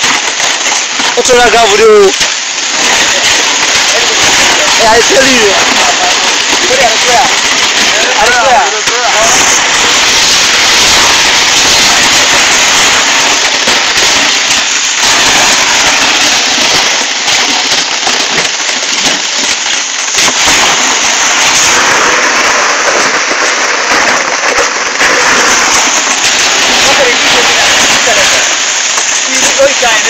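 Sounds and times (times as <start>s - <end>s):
continuous crackling hiss: 0.0s - 30.0s.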